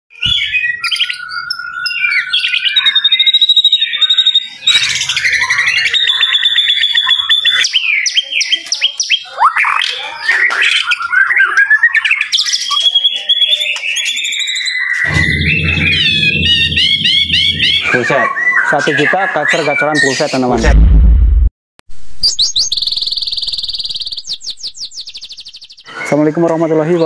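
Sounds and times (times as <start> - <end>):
songbird singing: 0.2 - 20.5, 22.2 - 27.0.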